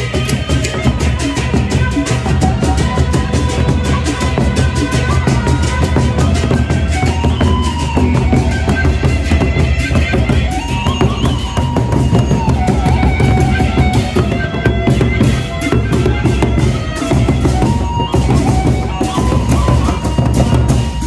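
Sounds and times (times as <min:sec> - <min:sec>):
large drums beating: 0:00.0 - 0:21.0
piping melody: 0:00.0 - 0:21.0.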